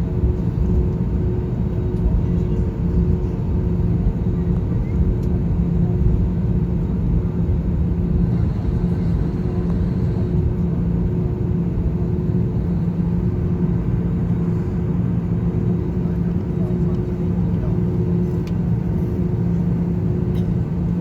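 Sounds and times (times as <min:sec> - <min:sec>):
aircraft engines humming: 0:00.0 - 0:21.0
airliner cabin rumble: 0:00.0 - 0:21.0.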